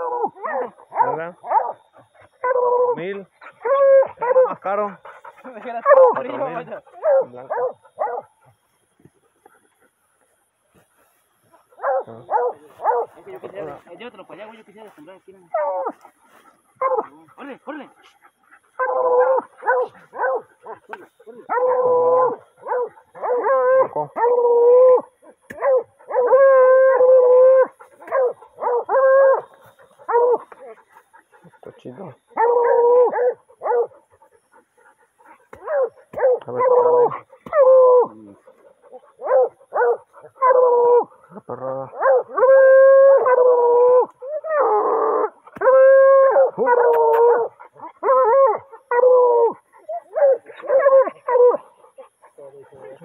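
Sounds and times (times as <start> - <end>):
dogs barking: 0.0 - 2.7, 3.5 - 8.6, 11.7 - 13.2, 16.7 - 17.5, 18.3 - 37.8, 38.4 - 41.3, 41.9 - 42.5, 43.2 - 53.0
hounds baying: 0.0 - 10.3, 11.4 - 13.8, 15.5 - 53.0.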